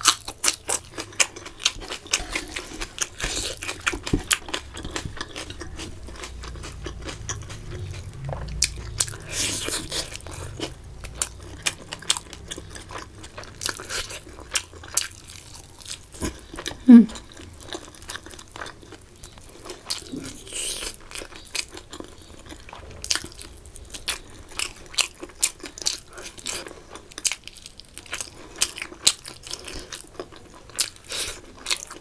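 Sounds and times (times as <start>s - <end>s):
person chewing and crunching: 0.0s - 32.0s.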